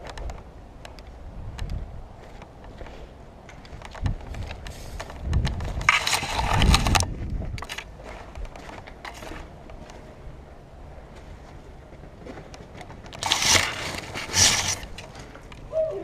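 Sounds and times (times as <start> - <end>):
gear scraping and rustling: 1.7 - 15.7.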